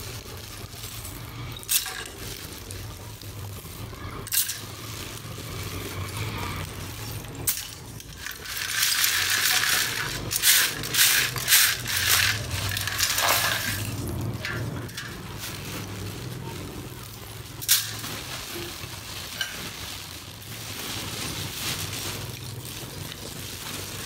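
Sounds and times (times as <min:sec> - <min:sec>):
clay pieces clattering and sliding: 0:04.2 - 0:24.0.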